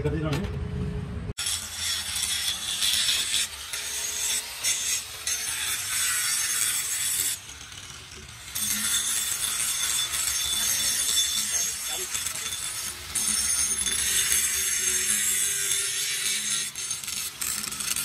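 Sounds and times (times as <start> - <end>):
angle grinder grinding steel: 1.4 - 18.0.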